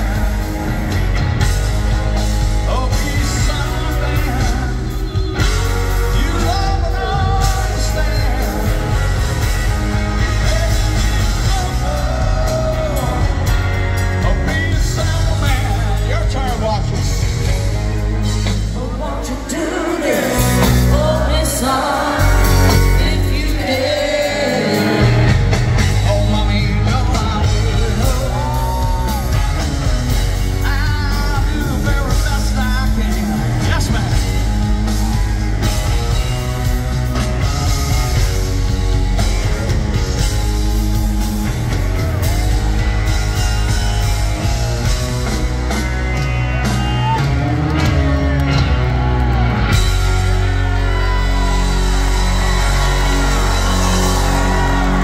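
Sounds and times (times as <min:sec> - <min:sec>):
lead singer: 0:00.0 - 0:55.0
rock band playing live: 0:00.0 - 0:55.0.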